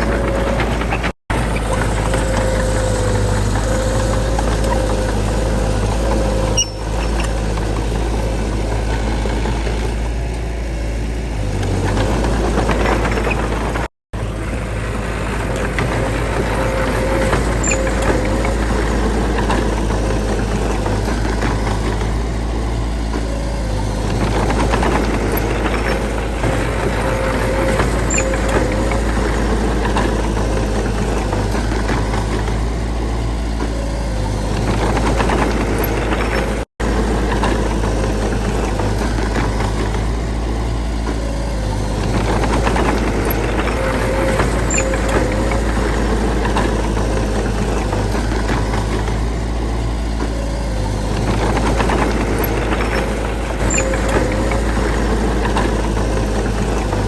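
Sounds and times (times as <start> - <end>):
diesel machinery rumbling: 0.0 - 57.0.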